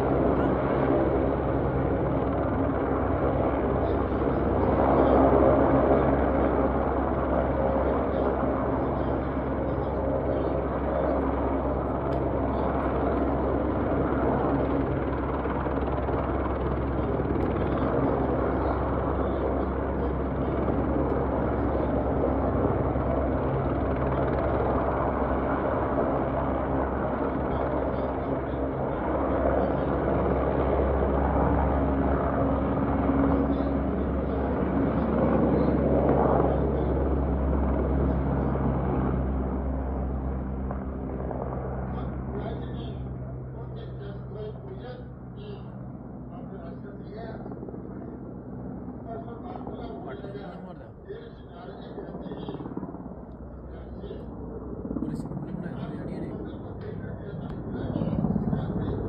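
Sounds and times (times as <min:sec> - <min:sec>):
helicopter turbine and rotor: 0:00.0 - 0:59.0.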